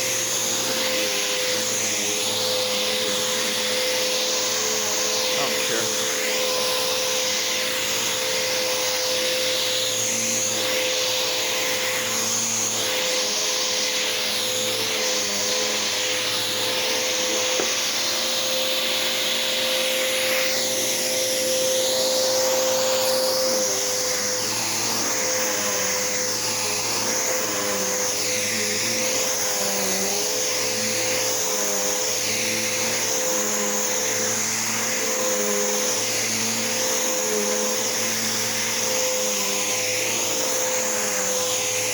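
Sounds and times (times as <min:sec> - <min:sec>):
vacuum cleaner running on carpet: 0:00.0 - 0:41.9.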